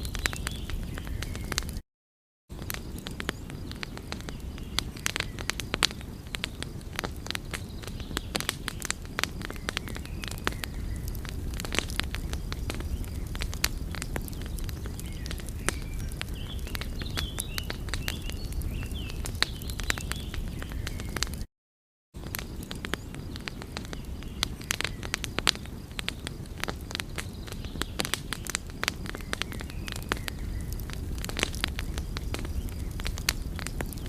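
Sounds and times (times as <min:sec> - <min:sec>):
wood fire crackling: 0:00.0 - 0:01.8, 0:02.5 - 0:21.5, 0:22.2 - 0:34.0.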